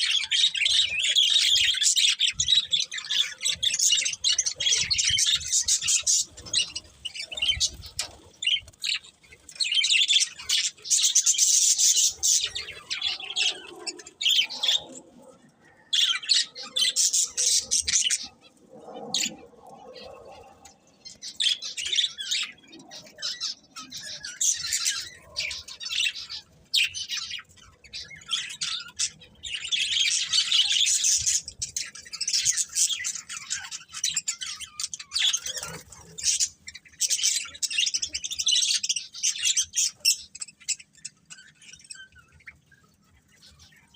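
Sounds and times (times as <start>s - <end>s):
budgerigars chirping and chattering: 0.0s - 15.0s, 15.9s - 19.4s, 20.0s - 43.9s.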